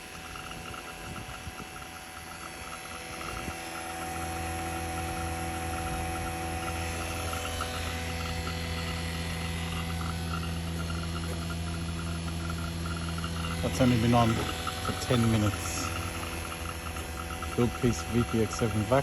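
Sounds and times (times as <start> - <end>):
insects chirping: 0.0 - 19.0
vacuum pump humming: 0.0 - 19.0.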